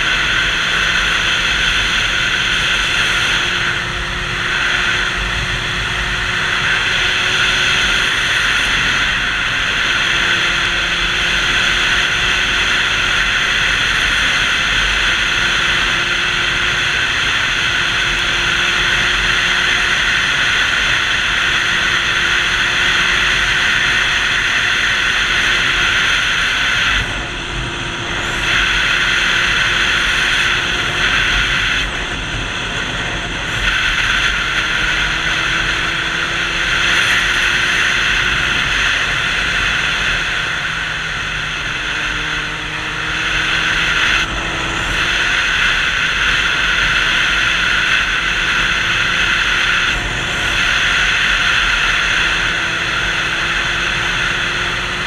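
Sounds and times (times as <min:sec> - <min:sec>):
motorcycle engine hum: 0:00.0 - 0:55.0
wind and road noise: 0:00.0 - 0:55.0.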